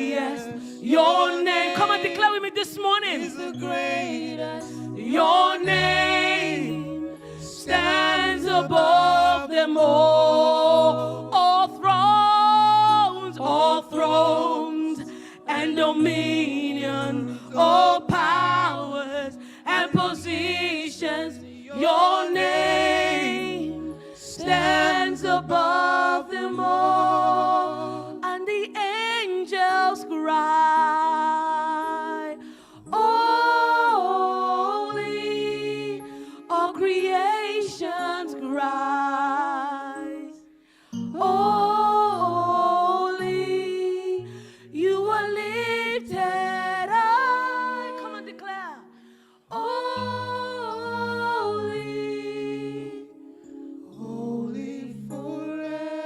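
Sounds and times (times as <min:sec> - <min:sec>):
group singing a slow worship song: 0:00.0 - 0:56.0.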